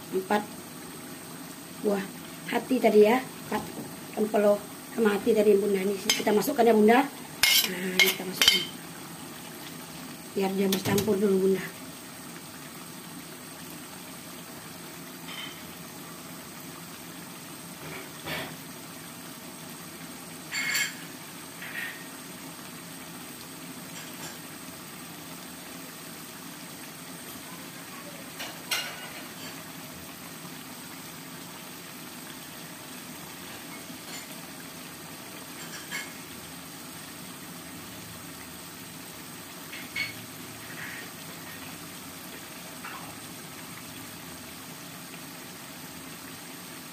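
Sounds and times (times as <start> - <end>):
sauce simmering hiss: 0.0 - 46.9.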